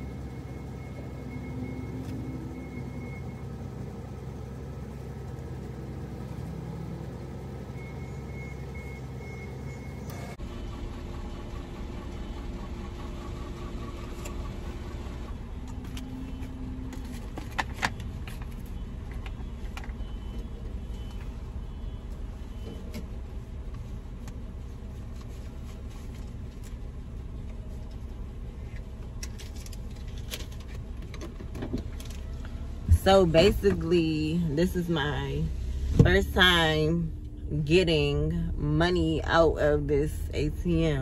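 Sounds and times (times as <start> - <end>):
van engine idling: 0.0 - 41.0.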